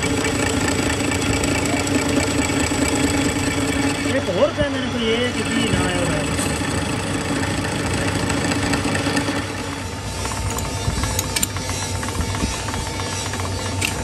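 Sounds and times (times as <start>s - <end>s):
metal lathe running: 0.0s - 14.0s
steady machine hum: 0.0s - 14.0s.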